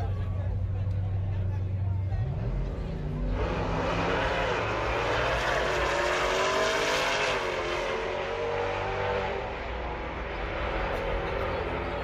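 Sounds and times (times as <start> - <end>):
drag race cars at full throttle: 0.0 - 12.0.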